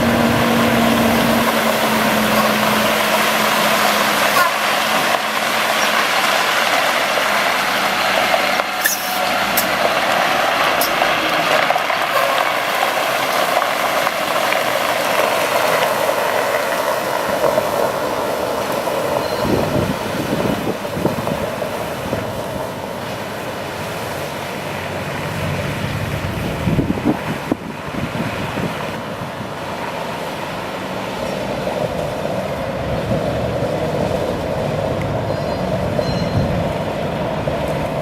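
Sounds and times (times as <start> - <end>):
diesel engine hiss: 0.0 - 38.0.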